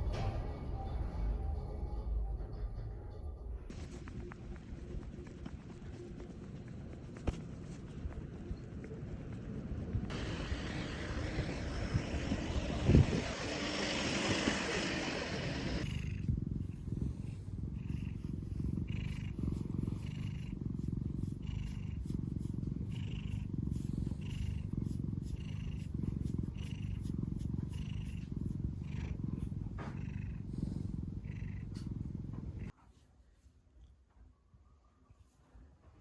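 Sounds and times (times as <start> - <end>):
cat purring: 3.7 - 32.8.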